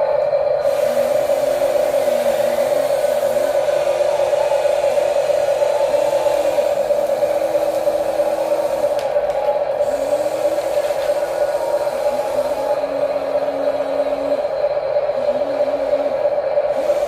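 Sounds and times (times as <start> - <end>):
lower motor tone: 0.0 - 17.0.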